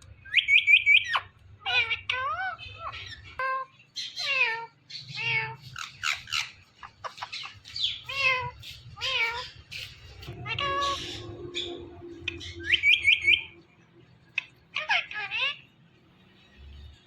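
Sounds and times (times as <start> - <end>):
parakeet calls: 0.2 - 15.7.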